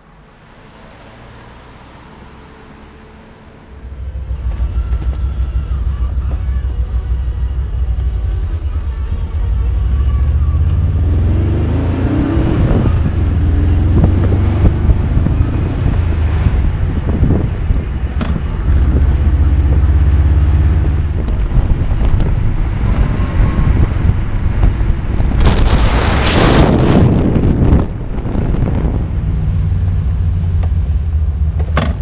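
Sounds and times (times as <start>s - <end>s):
car engine running: 2.7s - 32.0s
wind buffeting microphone: 4.2s - 32.0s.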